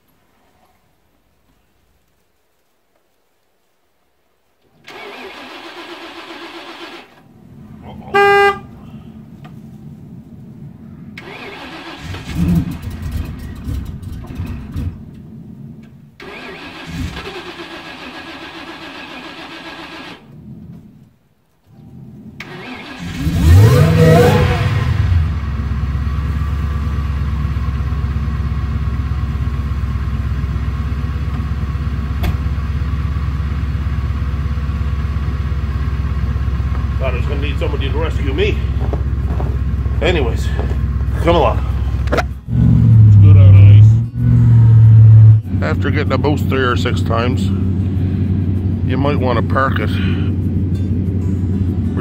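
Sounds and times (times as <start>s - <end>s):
car engine starting and idling: 4.6s - 52.0s.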